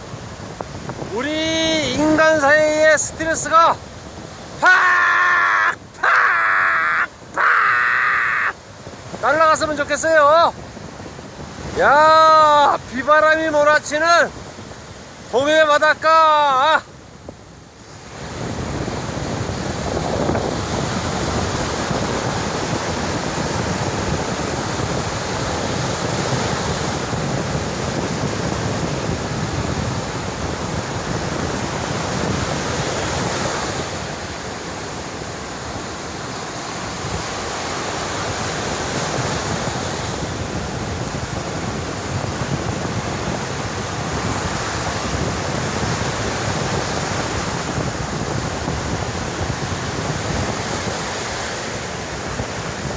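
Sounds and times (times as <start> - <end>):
wind buffeting microphone: 0.0 - 16.1, 16.8 - 52.9
sea surf crashing on shore: 0.0 - 52.9.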